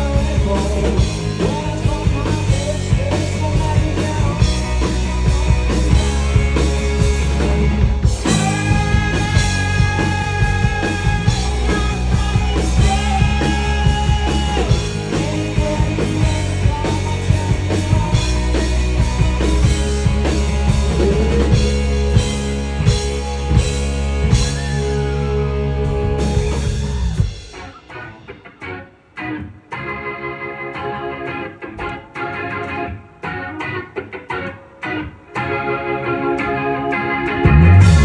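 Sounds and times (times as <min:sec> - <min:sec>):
bass guitar: 0:00.0 - 0:38.0
drums: 0:00.0 - 0:38.0
electric guitar bending notes: 0:00.0 - 0:38.0.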